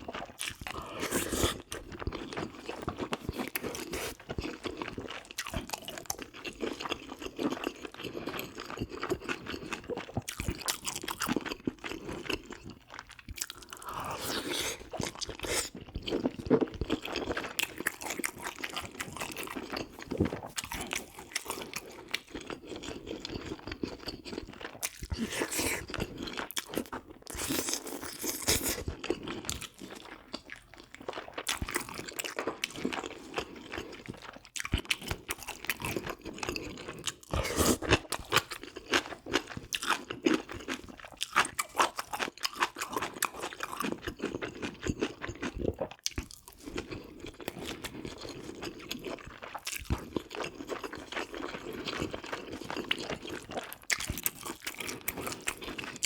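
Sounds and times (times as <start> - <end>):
crunchy chewing mouth sounds: 0.0 - 56.0.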